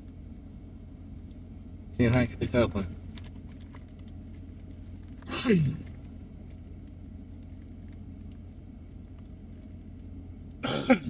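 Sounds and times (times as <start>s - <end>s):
car idling inside cabin: 0.0s - 11.0s.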